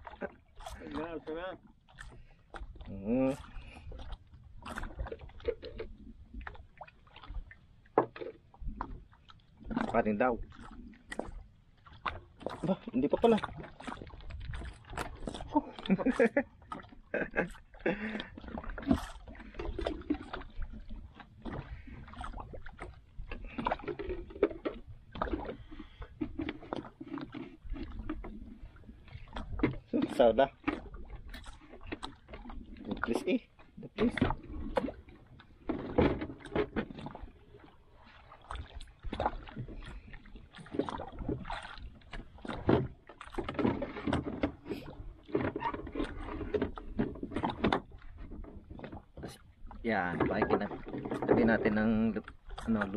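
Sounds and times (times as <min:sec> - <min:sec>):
water lapping against hull: 0:00.0 - 0:52.9
boat knocks and taps: 0:03.8 - 0:52.9.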